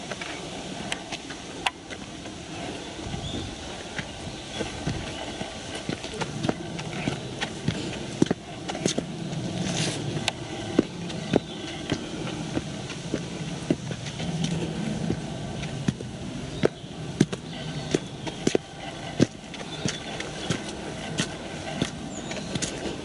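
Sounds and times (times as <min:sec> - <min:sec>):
footsteps on hard path: 0:00.0 - 0:23.0
outdoor background noise: 0:00.0 - 0:23.0.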